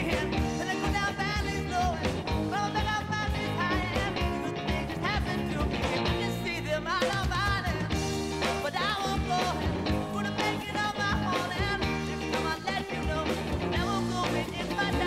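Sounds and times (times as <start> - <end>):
guitar: 0.0 - 15.0
person singing: 0.0 - 15.0
steady drum beat: 0.0 - 15.0.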